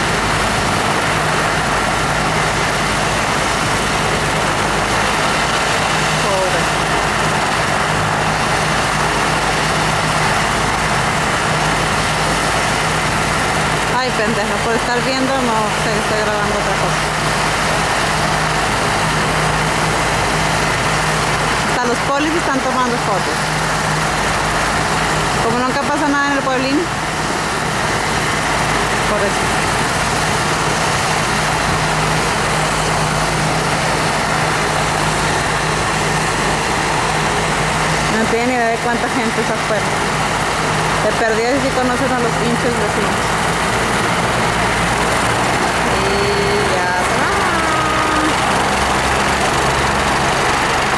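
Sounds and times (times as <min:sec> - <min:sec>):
helicopter engine and rotor: 0:00.0 - 0:50.9
low even hum: 0:00.0 - 0:50.9.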